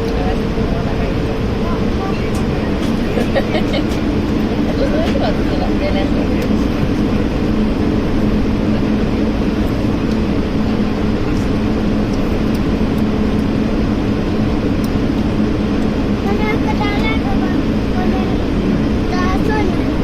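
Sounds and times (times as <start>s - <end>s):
airplane cabin engine noise: 0.0s - 20.0s
low steady hum: 0.0s - 20.0s.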